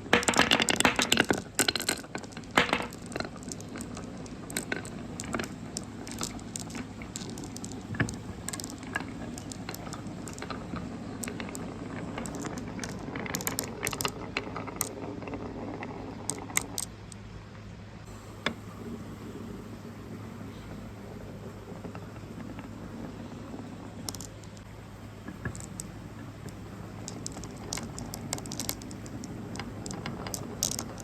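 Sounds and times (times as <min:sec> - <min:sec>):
marbles clattering on track: 0:00.0 - 0:17.2, 0:19.4 - 0:31.0.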